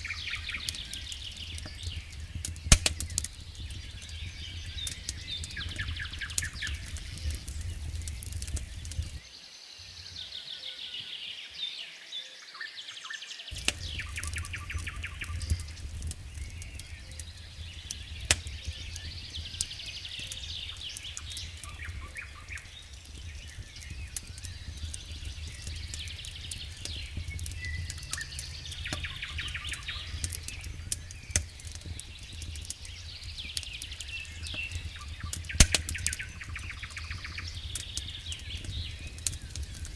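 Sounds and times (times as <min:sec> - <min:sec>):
low steady rumble: 0:00.0 - 0:09.2, 0:13.6 - 0:39.9
campfire crackling: 0:00.0 - 0:09.3, 0:13.5 - 0:39.9
small birds trilling: 0:00.0 - 0:39.9.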